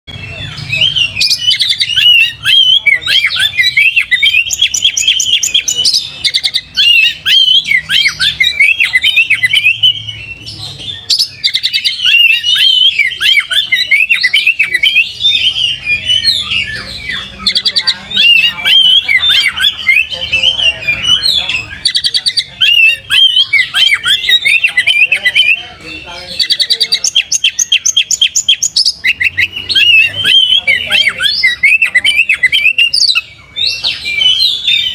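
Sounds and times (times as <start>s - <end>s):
bird singing whistles and trills: 0.1s - 34.9s.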